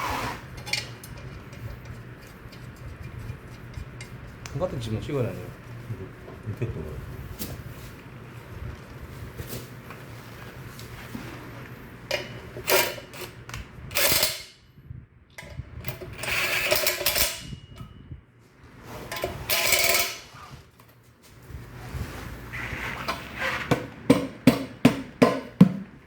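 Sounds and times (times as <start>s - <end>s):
low steady hum: 0.0s - 23.3s.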